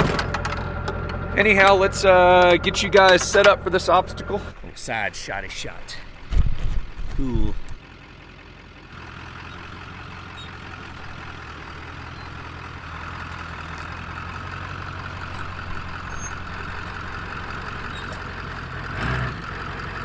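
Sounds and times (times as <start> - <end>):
diesel pickup engine running: 0.0 - 20.0.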